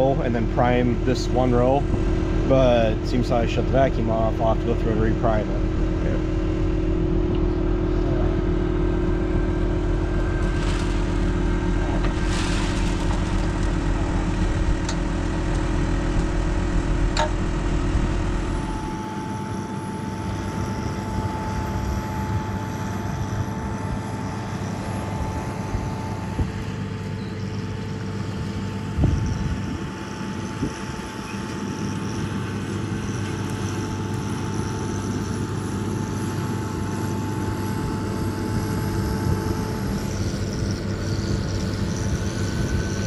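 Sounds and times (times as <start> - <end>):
steady high whine: 0.0 - 43.0
tractor engine rumbling: 0.0 - 43.0.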